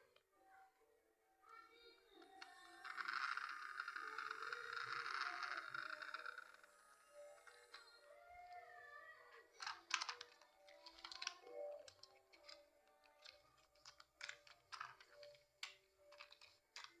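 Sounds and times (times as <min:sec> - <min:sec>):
faint background music: 0:00.0 - 0:17.0
toy train clicks and rustles: 0:01.7 - 0:08.6, 0:09.3 - 0:17.0.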